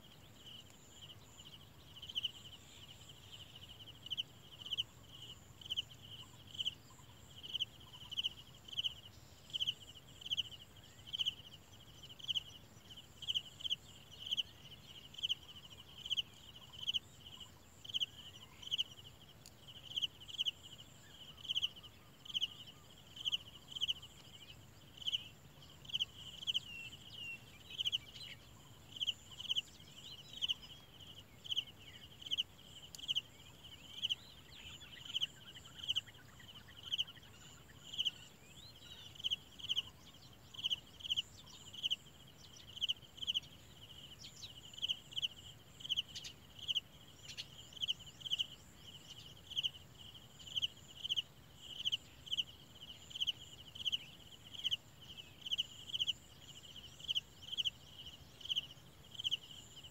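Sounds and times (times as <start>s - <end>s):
cricket chirping: 0.0s - 59.9s.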